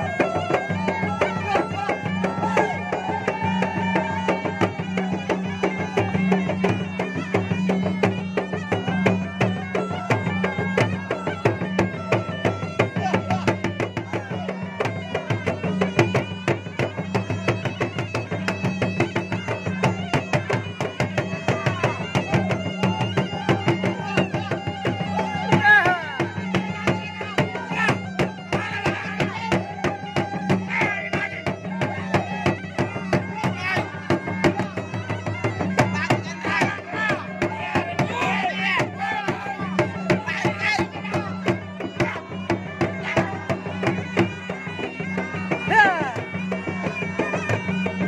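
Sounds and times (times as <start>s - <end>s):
drums beaten fast: 0.0s - 48.0s
wailing shawm melody: 0.0s - 48.0s.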